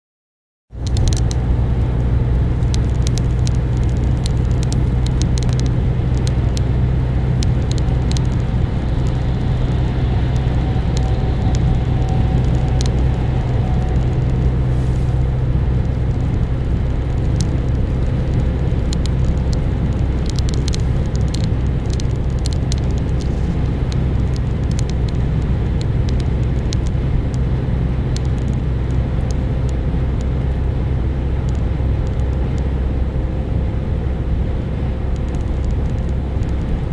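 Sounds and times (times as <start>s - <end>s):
car engine and tyre drone: 0.7s - 36.9s
raindrops ticking on windscreen: 0.8s - 33.6s, 34.2s - 36.9s.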